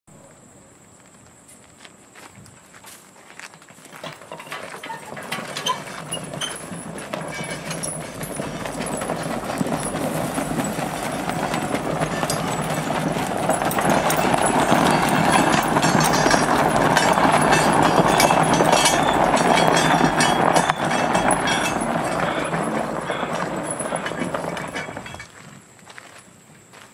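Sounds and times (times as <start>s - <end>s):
mule hooves clopping: 1.0s - 26.9s
tire scraping over gravel: 2.7s - 26.8s.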